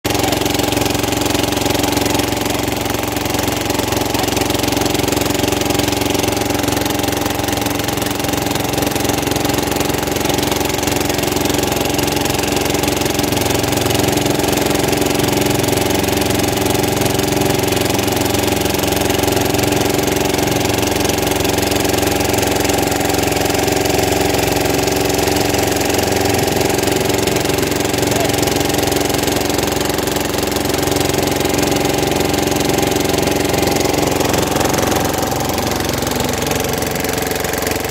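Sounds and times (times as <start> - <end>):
motorboat engine droning: 0.1 - 37.9.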